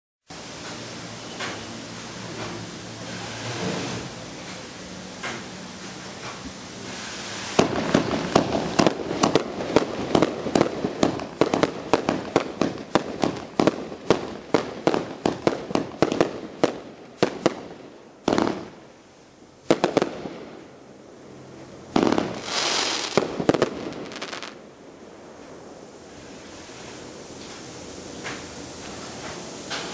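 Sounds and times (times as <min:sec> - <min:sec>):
fireworks launches and bursts: 0:00.3 - 0:29.9
loud firework reports: 0:00.3 - 0:29.9
crackling firework pops: 0:00.6 - 0:01.7, 0:02.3 - 0:18.8, 0:19.6 - 0:20.7, 0:21.9 - 0:24.6, 0:25.4 - 0:29.9.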